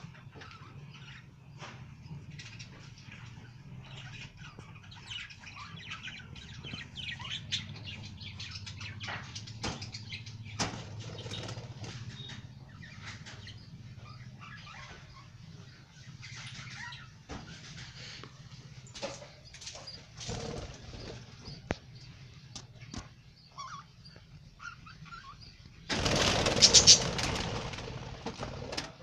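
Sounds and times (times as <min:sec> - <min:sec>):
budgerigars chirping: 0:02.3 - 0:17.2, 0:19.6 - 0:28.6.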